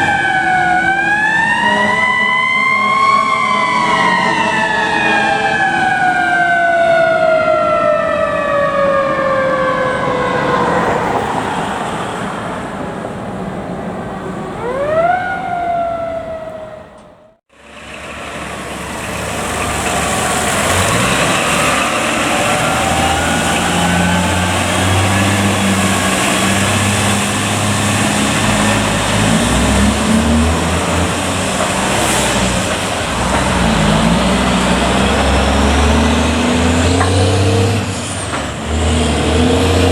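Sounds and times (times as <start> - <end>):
fire truck engine rumbling: 0.0 - 39.9
fire truck siren: 0.0 - 39.9.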